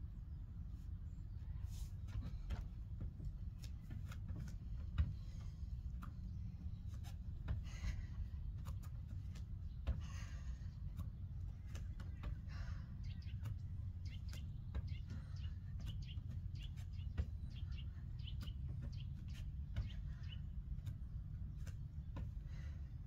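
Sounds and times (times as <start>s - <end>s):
steady low rumble: 0.0s - 23.0s
small birds chirping: 0.1s - 23.0s.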